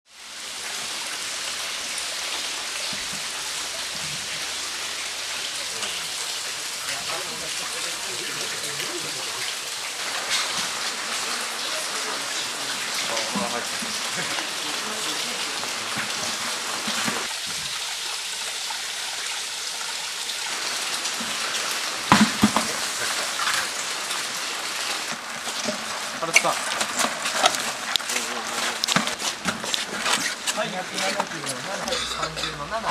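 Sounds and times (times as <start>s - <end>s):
falling and splashing water: 0.1s - 32.9s.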